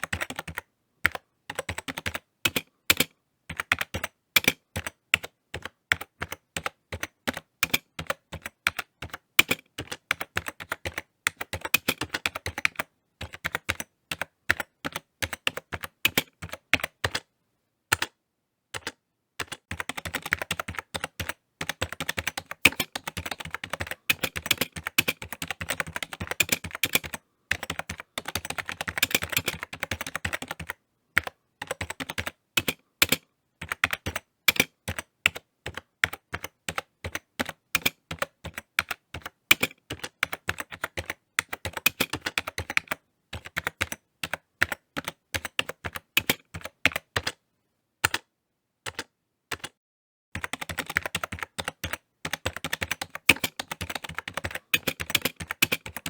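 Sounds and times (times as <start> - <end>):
computer keyboard typing: 0.0 - 17.3, 17.9 - 47.4, 48.0 - 48.3, 48.9 - 49.8, 50.4 - 56.0.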